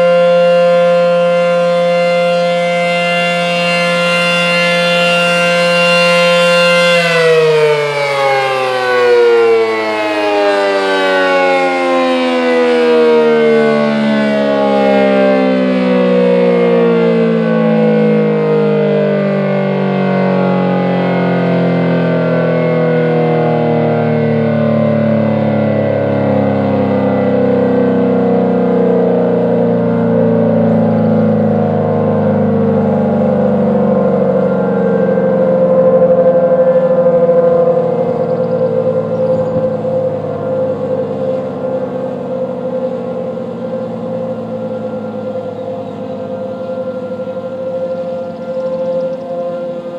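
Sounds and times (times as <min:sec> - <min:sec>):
warning siren winding down: 0:00.0 - 0:49.9.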